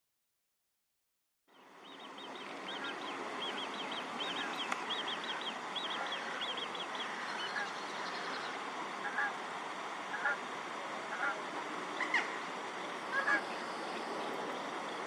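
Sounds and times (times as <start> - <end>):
steady outdoor hiss: 1.5 - 15.0.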